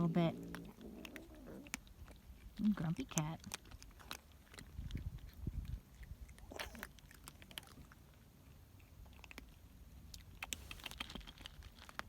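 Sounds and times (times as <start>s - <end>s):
cats chewing crunchy food: 0.0s - 12.0s.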